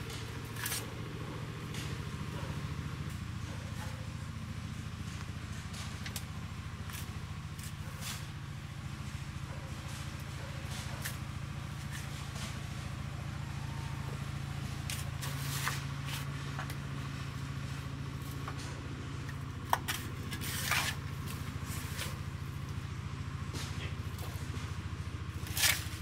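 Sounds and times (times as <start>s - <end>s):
hoe scraping soil and leaves: 0.0s - 26.0s
low engine drone: 0.0s - 26.0s.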